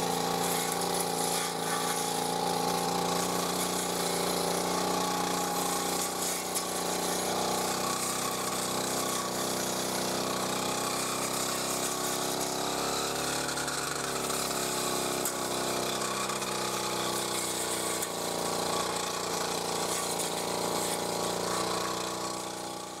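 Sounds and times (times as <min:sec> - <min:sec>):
brush cutter engine running: 0:00.0 - 0:23.0
spinning head mowing weeds: 0:00.0 - 0:23.0.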